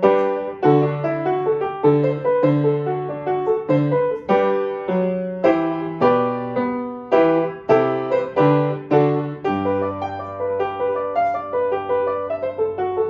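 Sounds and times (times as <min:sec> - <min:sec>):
upright piano playing slow chords: 0:00.0 - 0:13.0.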